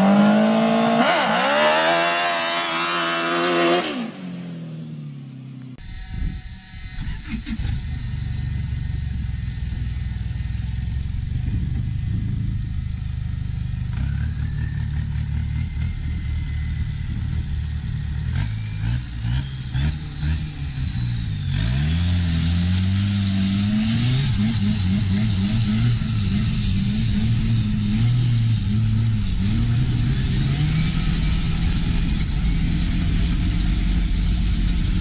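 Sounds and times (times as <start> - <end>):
powerful engine revving: 0.0 - 5.7, 7.0 - 35.0.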